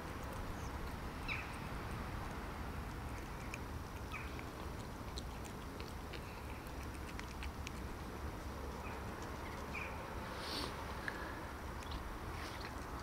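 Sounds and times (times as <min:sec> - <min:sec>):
cat chewing food: 0:00.0 - 0:13.0.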